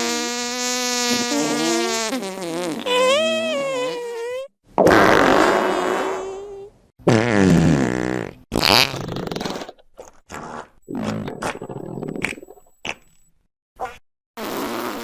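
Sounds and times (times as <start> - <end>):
fart sound effects: 0.0 - 13.1, 13.8 - 15.0.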